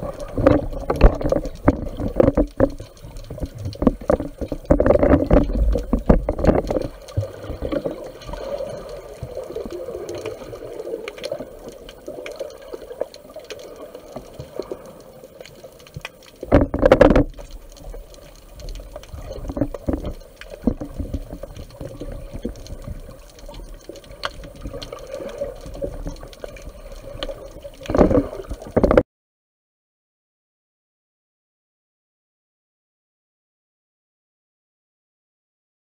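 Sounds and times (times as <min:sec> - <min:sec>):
muffled water rushing and bubbling: 0:00.0 - 0:29.0
water surges: 0:00.0 - 0:29.0.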